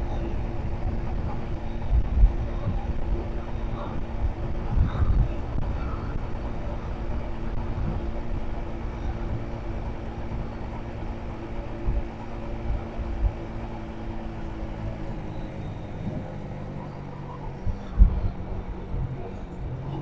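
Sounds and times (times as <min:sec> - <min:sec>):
constant hum: 0:00.0 - 0:20.0
vehicle engine rumble: 0:00.0 - 0:20.0.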